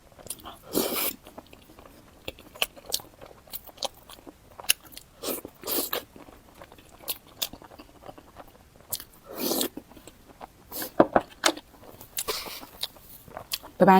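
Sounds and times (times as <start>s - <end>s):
person chewing with crunches: 0.0s - 13.9s.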